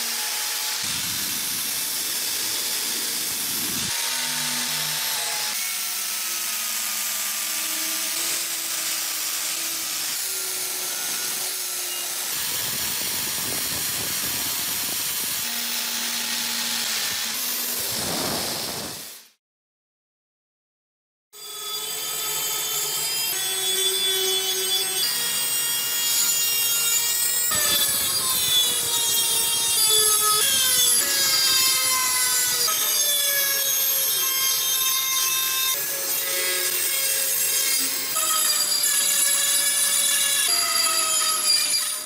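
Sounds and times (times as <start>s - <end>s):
rotary tool grinding metal: 0.0s - 19.3s, 21.4s - 42.0s.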